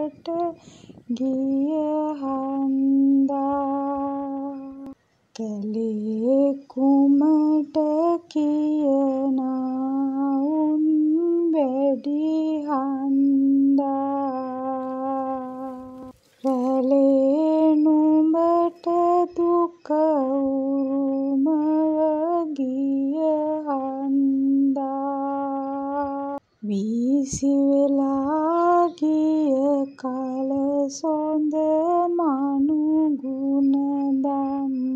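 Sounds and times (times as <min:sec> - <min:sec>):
person chanting verse: 0:00.0 - 0:34.9.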